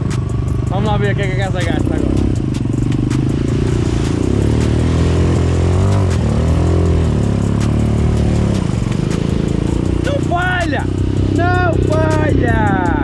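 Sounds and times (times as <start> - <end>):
quad bike engine running hard: 0.0 - 13.0
water splashing around wheels: 0.0 - 13.0.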